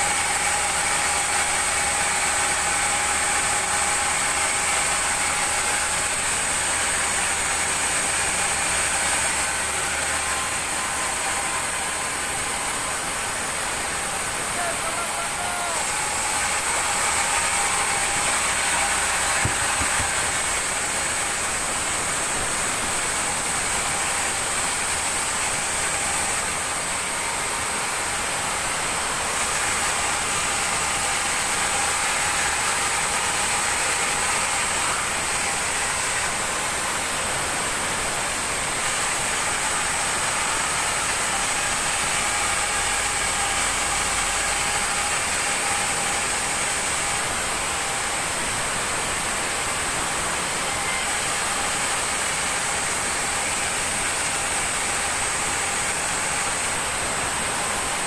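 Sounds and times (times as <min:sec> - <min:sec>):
sawmill machinery whining: 0:00.0 - 0:58.0.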